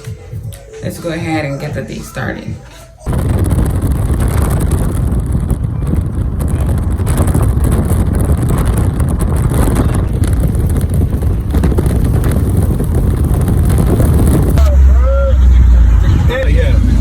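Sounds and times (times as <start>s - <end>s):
wind noise on microphone: 0.0s - 17.0s
car rumbling on the move: 3.1s - 17.0s.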